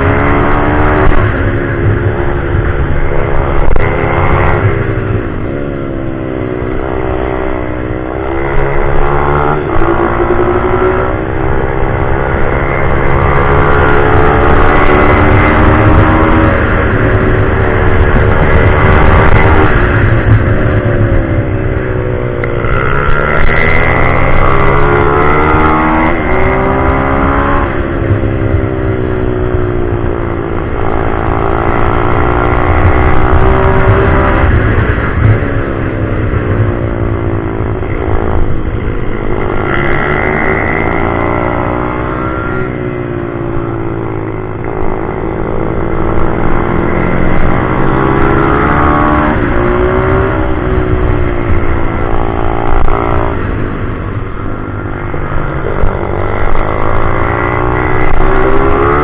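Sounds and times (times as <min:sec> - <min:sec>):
pit bike engine revving: 0:00.0 - 0:59.0.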